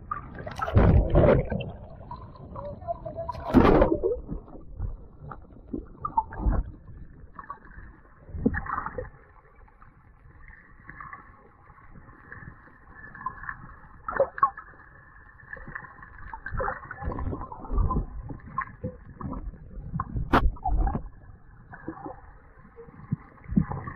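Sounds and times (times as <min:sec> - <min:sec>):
muffled underwater water wash: 0:00.0 - 0:23.9.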